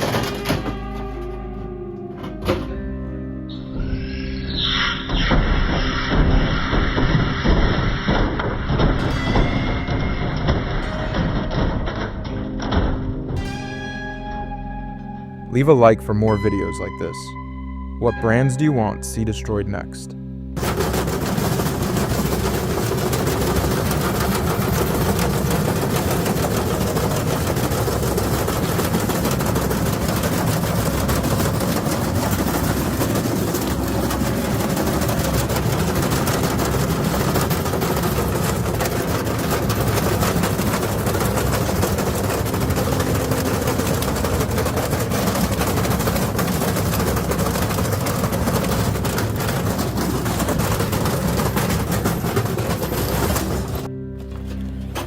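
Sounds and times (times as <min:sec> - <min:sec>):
washing machine drum banging: 0:00.0 - 0:15.7, 0:20.6 - 0:55.0.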